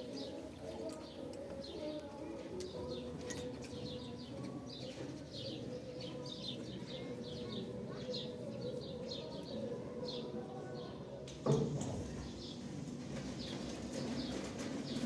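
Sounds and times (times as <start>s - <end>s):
small birds chirping: 0.0s - 11.0s, 12.2s - 15.0s.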